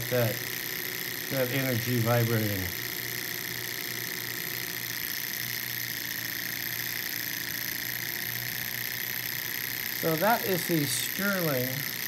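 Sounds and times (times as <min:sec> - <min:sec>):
small engine mechanical whir: 0:00.0 - 0:12.0.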